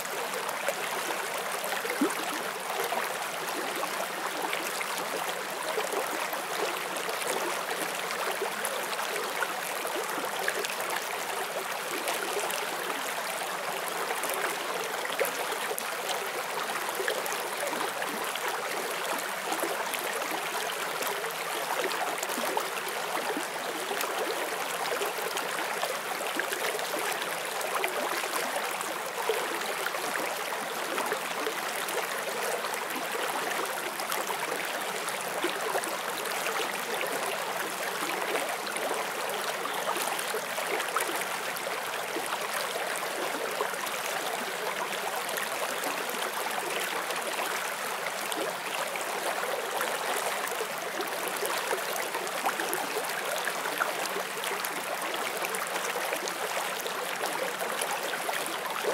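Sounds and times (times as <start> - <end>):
stream flowing over rocks: 0.0 - 58.9.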